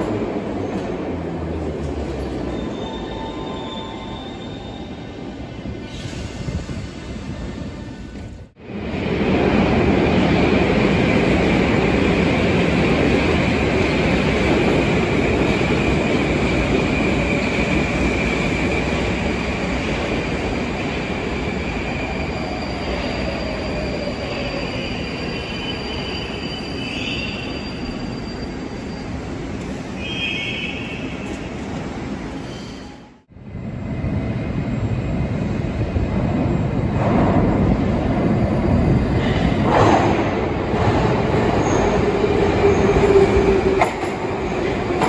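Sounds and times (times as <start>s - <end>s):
metro train running noise: 0.0s - 45.0s.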